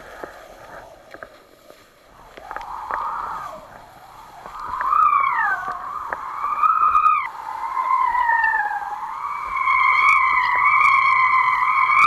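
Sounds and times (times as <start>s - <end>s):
high whistling whine: 0.0s - 12.0s.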